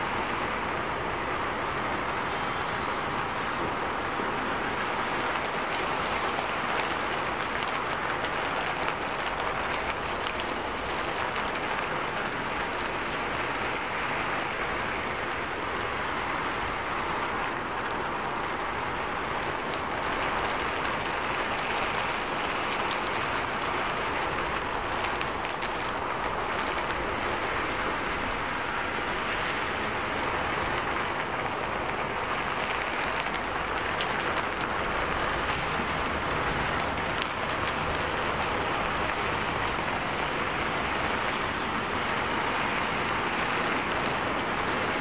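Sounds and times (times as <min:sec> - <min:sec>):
heavy rain on street: 0:00.0 - 0:45.0.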